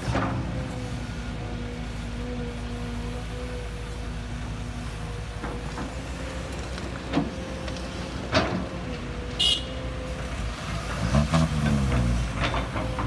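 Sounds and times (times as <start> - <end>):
excavator engine whining: 0.0 - 13.0.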